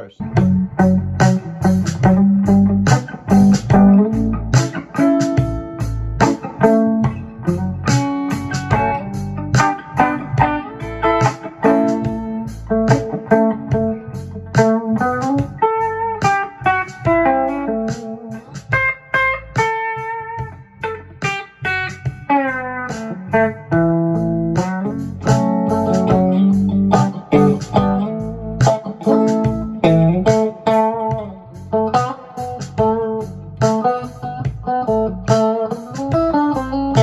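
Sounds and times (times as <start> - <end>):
bluesy electric guitar: 0.0 - 37.0.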